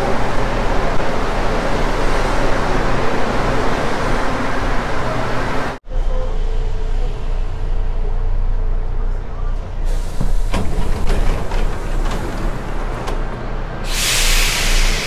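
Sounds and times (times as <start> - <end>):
train interior rumble and hum: 0.0 - 15.0
train rushing past platform: 0.0 - 15.0.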